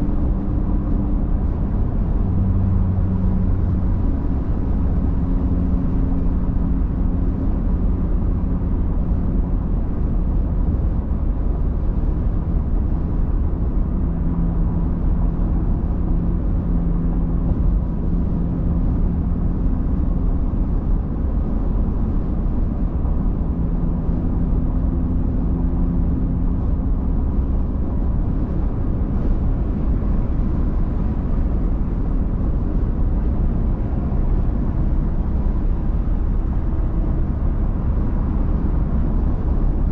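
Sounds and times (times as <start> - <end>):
low engine hum: 0.0 - 39.9
tyre and road noise: 0.0 - 39.9.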